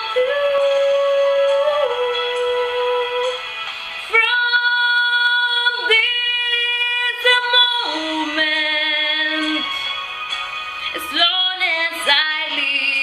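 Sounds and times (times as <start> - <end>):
slow ballad music: 0.0 - 13.0.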